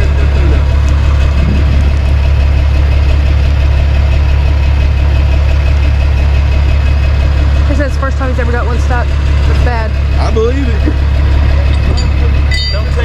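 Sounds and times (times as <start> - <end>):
large vehicle engine humming: 0.0 - 13.0.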